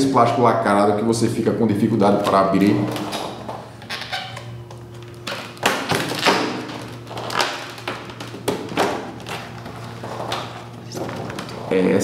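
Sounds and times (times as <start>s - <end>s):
plastic crackling: 2.1s - 11.7s.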